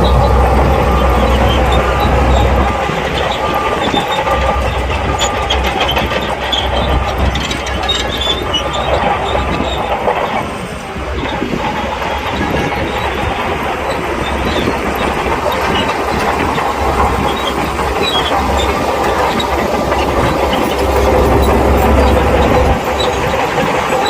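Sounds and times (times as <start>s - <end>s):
diesel engine running: 0.0s - 24.0s
steel tracks clanking: 0.0s - 24.0s.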